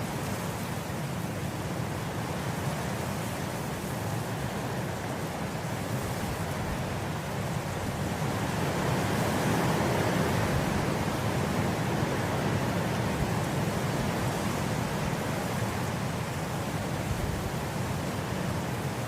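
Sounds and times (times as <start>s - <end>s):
wind blowing through grass: 0.0s - 19.0s.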